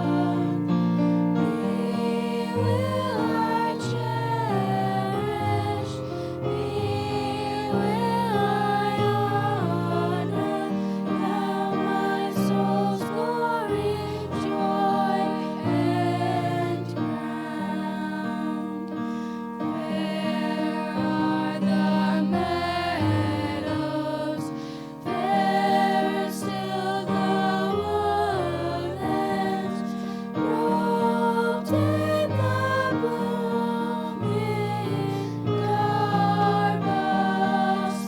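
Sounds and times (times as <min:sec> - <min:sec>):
women singing a hymn: 0:00.0 - 0:38.0.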